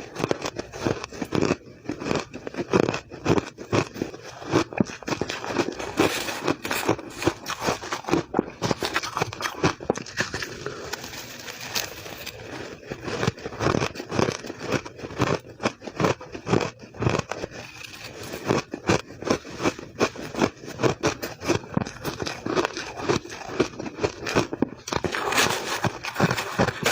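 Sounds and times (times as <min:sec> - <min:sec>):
ice crunching while chewed: 0:00.0 - 0:26.9.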